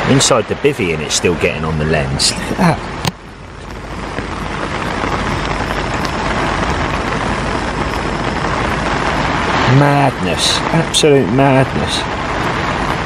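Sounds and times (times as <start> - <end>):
heavy rain pelting down: 0.0 - 13.0.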